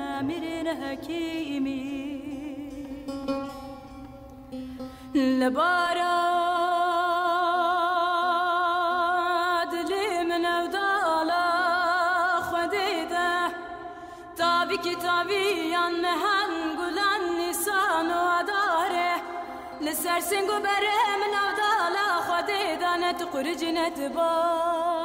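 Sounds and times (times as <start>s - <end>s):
person singing with vibrato: 0.0s - 3.9s, 5.1s - 25.0s.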